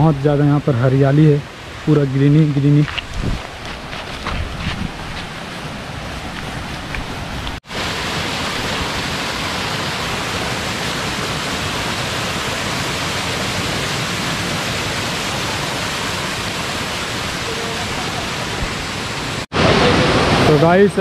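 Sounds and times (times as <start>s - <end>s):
small waterfall rushing: 0.0s - 4.4s, 5.0s - 21.0s.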